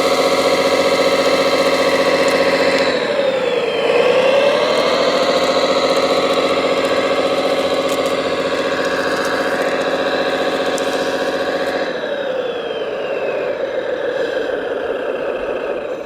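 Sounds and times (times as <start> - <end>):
remote-control truck engine: 0.0 - 16.0.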